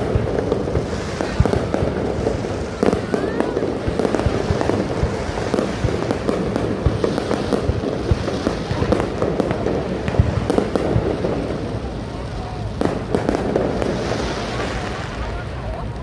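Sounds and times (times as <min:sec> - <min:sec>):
continuous rumble: 0:00.0 - 0:16.0
fireworks bangs and crackles: 0:00.0 - 0:16.0.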